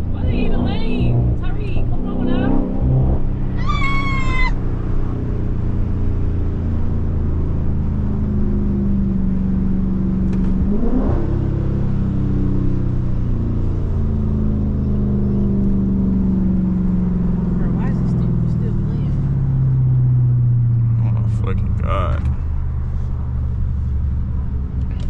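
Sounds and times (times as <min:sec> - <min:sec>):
car exhaust drone while cruising: 0:00.0 - 0:25.0.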